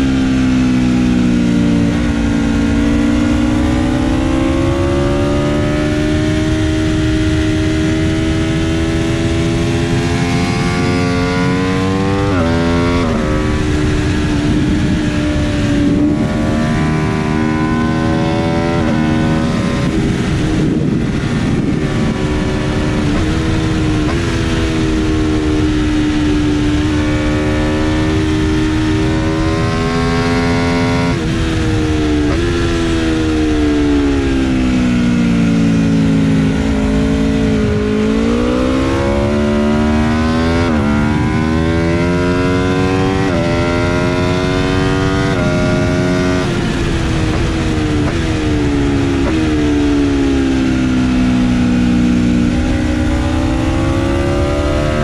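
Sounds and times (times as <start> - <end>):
motorcycle engine at racing speed: 0.0 - 55.0
wind rushing: 1.6 - 55.0.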